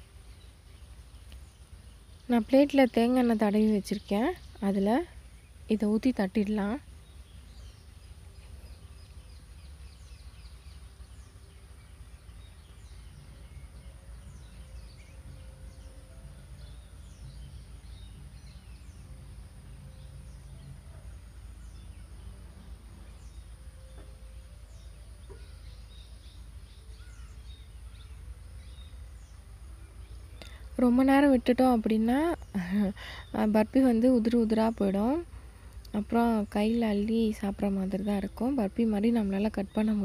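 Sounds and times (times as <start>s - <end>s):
birds chirping: 0.0s - 40.0s
steady low hum: 0.0s - 40.0s.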